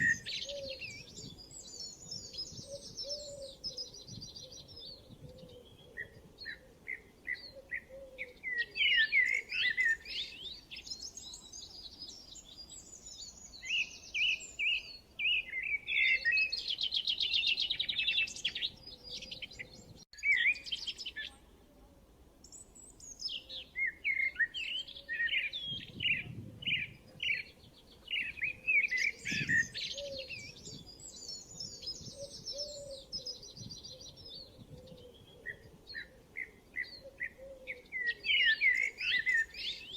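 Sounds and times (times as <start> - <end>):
songbirds chirping and singing: 0.0 - 21.4, 22.4 - 39.9.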